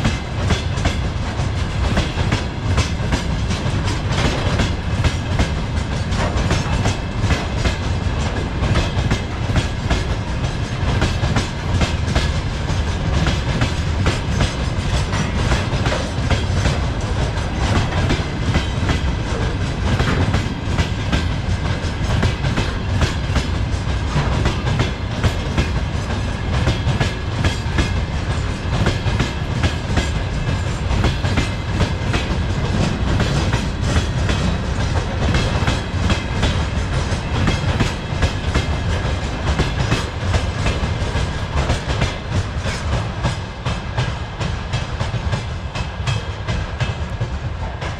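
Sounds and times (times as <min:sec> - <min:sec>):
low train rumble: 0:00.0 - 0:47.9
train wheels clicking over rails: 0:00.0 - 0:47.9.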